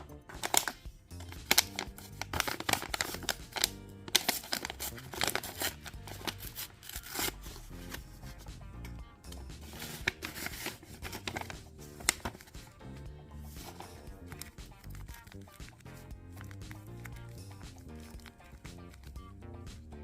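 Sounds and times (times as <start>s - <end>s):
soft background music: 0.0s - 20.0s
paper crinkling and rustling: 0.3s - 8.4s, 9.6s - 12.7s, 13.5s - 17.2s, 17.8s - 19.2s.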